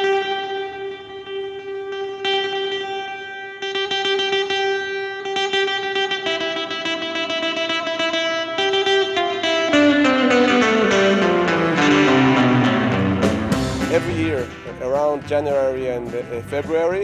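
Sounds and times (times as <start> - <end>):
plucked guitar chords: 0.0 - 17.0.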